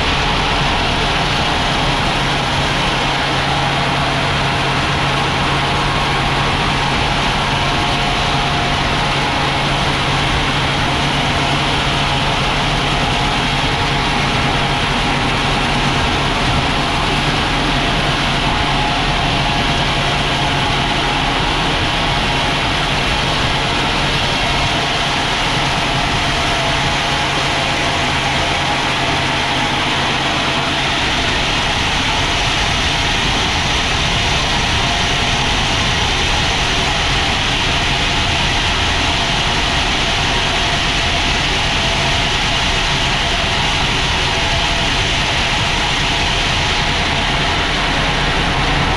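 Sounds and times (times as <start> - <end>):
sawmill machinery running: 0.0 - 48.9.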